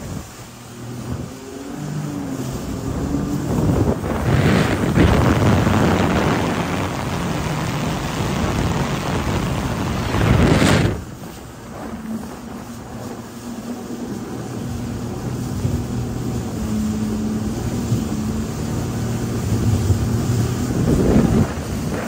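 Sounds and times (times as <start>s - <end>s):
jet ski engine: 0.0s - 22.0s
wind and water spray rushing: 0.0s - 22.0s.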